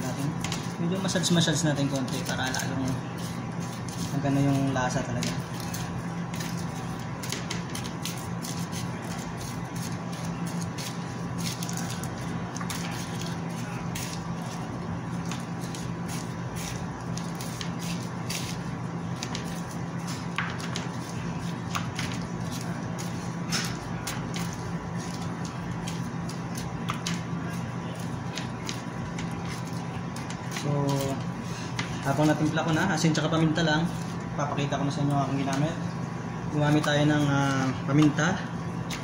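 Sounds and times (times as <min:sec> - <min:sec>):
plastic gloves crinkling: 0:00.0 - 0:35.0
steady low hum: 0:00.0 - 0:39.0.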